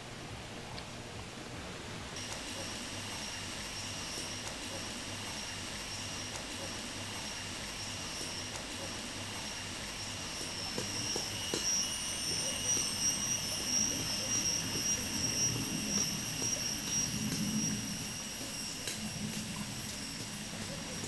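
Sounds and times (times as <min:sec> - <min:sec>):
droning insect chorus: 0:02.2 - 0:21.0.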